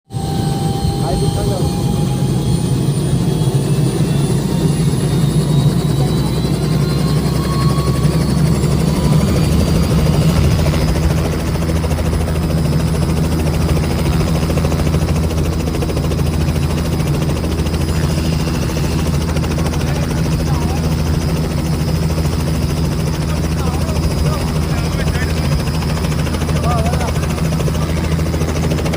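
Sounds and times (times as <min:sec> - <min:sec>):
helicopter rotor and engine drone: 0:00.0 - 0:28.9
high turbine whine: 0:00.1 - 0:28.9.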